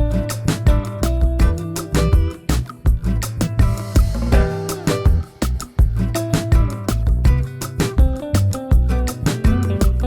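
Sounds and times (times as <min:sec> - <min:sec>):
music with drums and guitar: 0:00.0 - 0:10.0.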